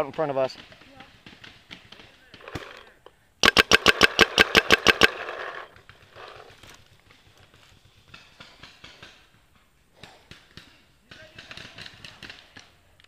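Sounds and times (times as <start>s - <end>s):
paintball marker rapid firing: 0.0s - 12.9s
distant paintball popping: 0.0s - 13.0s.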